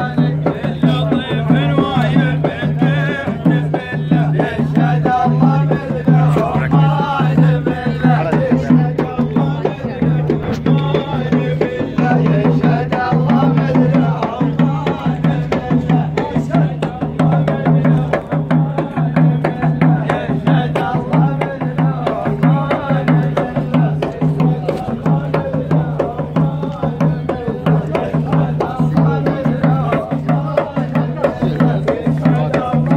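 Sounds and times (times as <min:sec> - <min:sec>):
drums beating fast rhythm: 0:00.0 - 0:32.9
men chanting together: 0:00.0 - 0:32.9.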